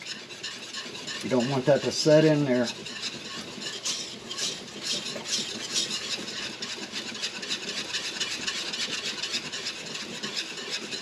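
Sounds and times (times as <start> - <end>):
metal whisk scraping a pot: 0.0 - 11.0.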